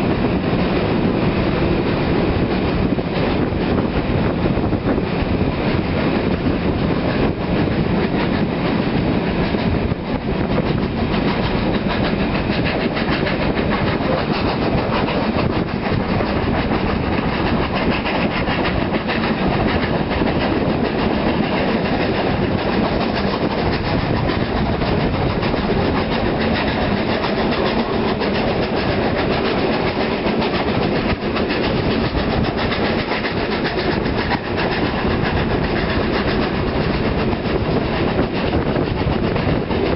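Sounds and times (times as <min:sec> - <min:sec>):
steam locomotives chuffing: 0:00.0 - 0:39.9.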